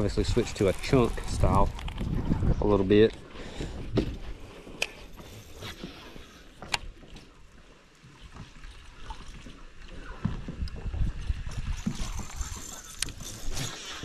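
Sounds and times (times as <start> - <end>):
low rumble of water and wind: 0.0 - 14.0.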